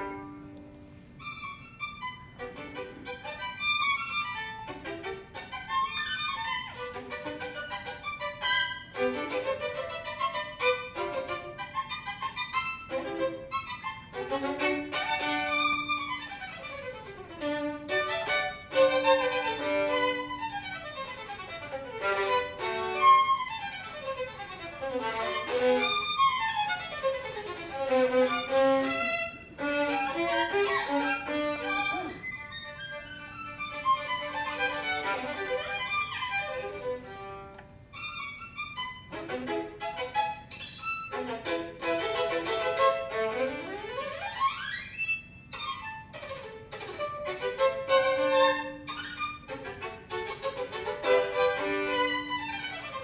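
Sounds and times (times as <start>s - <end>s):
violin playing fast runs: 1.2s - 53.0s.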